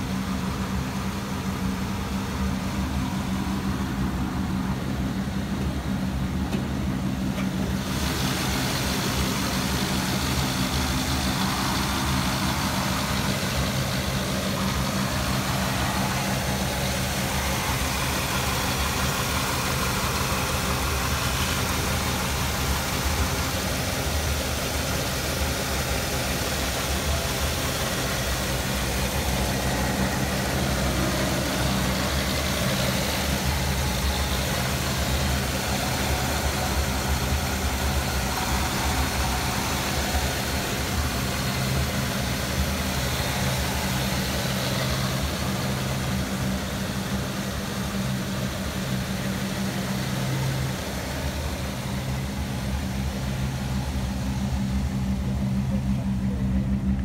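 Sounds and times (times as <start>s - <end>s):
car engine idling: 0.0s - 57.0s
radiator fan turning: 3.6s - 57.0s.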